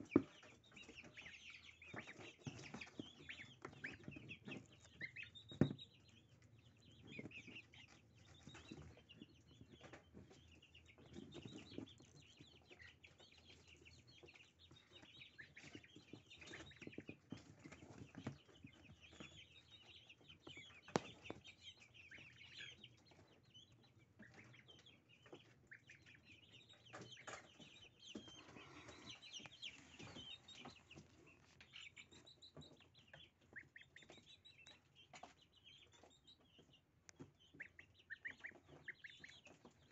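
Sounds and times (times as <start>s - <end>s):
goslings peeping softly: 0.0s - 39.9s.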